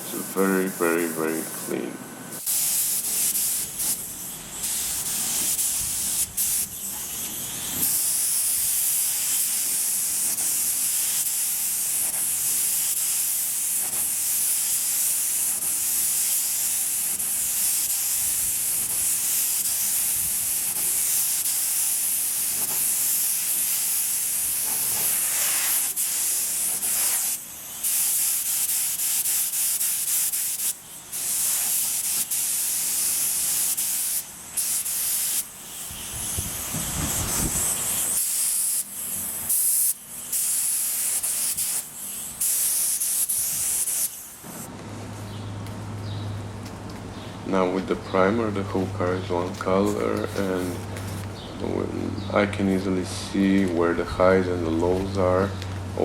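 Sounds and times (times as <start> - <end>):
paint spray gun hissing: 2.4 - 44.7, 49.0 - 51.8.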